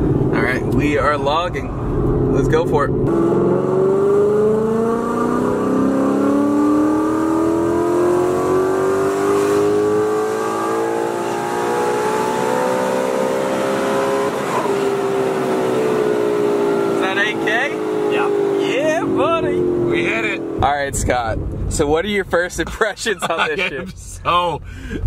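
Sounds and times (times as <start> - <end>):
car engine revving at full throttle: 0.0 - 25.0.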